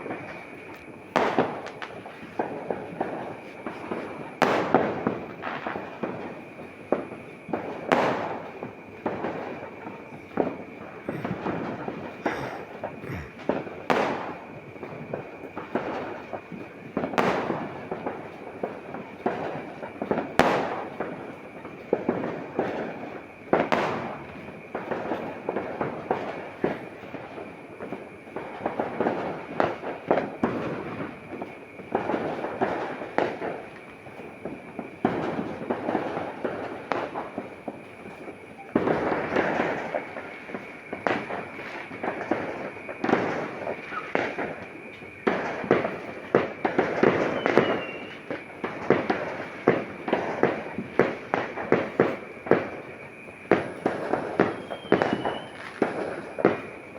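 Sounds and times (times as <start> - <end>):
firecrackers crackling: 0.0 - 56.9
loud firework bangs: 0.0 - 56.9.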